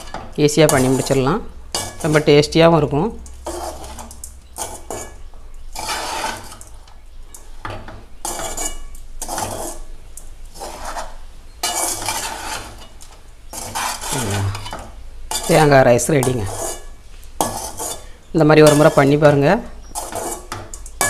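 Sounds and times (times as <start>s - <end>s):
metal ladle scraping metal pan: 0.0s - 2.5s, 3.3s - 21.0s.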